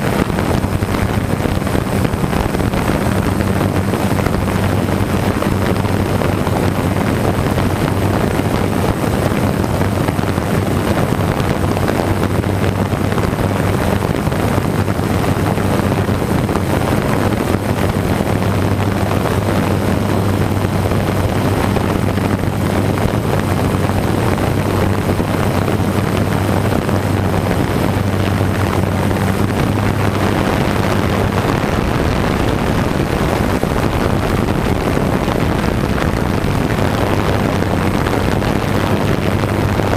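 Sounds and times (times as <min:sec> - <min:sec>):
prop wash and wind rushing: 0:00.0 - 0:39.9.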